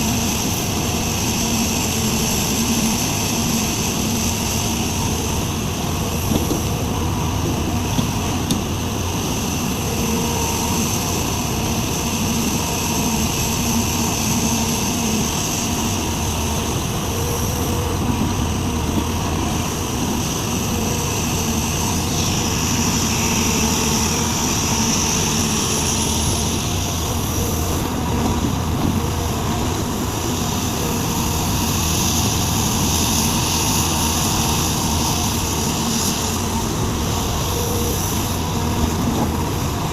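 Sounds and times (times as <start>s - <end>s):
excavator diesel engine running: 0.0s - 39.9s
high whine: 0.0s - 39.9s.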